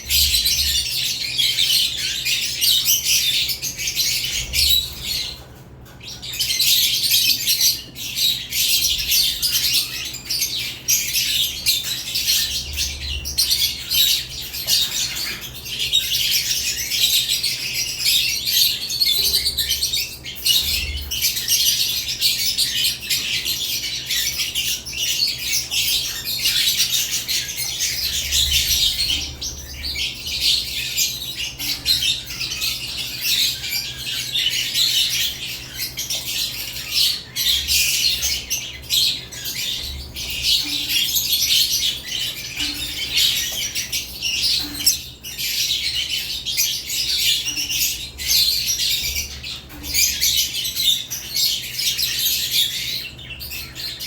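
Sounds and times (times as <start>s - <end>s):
lovebirds chirping and squawking: 0.0s - 54.0s.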